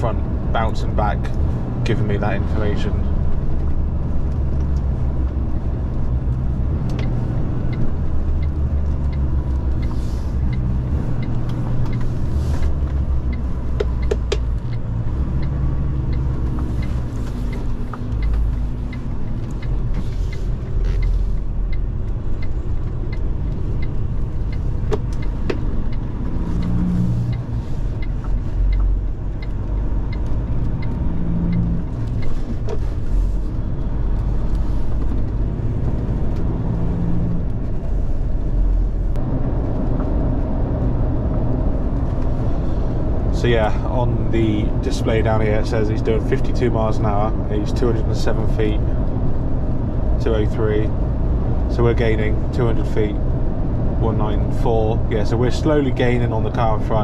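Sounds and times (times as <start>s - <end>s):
diesel engine drone in cab: 0.0s - 57.0s
road noise: 0.0s - 57.0s.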